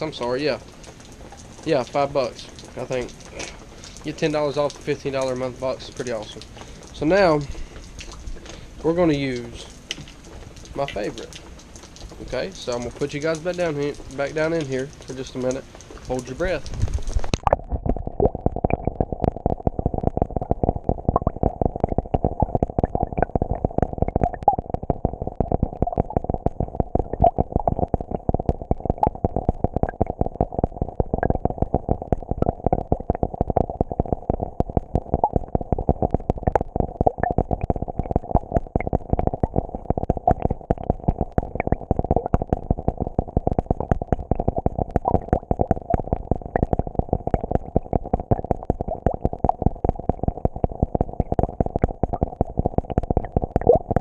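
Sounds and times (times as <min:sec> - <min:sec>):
rain heard underwater: 0:00.0 - 0:54.0.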